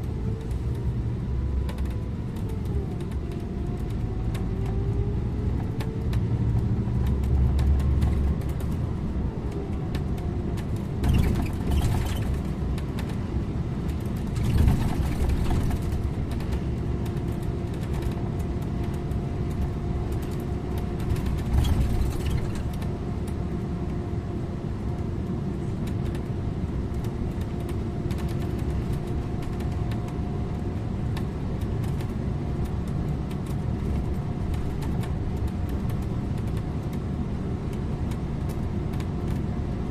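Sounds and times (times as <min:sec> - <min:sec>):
bus engine and tyre rumble: 0:00.0 - 0:39.9
constant whine: 0:00.0 - 0:39.9.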